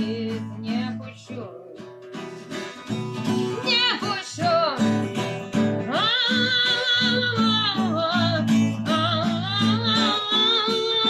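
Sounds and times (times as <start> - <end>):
person singing: 0.0 - 2.7, 3.3 - 11.0
acoustic guitar: 0.0 - 11.0.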